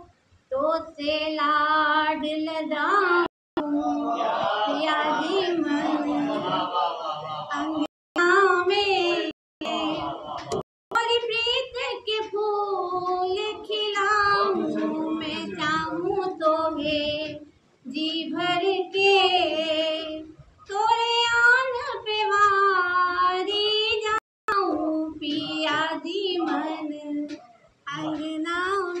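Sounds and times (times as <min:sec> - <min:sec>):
woman singing unaccompanied: 0:00.0 - 0:06.5, 0:07.5 - 0:10.2, 0:10.9 - 0:29.0.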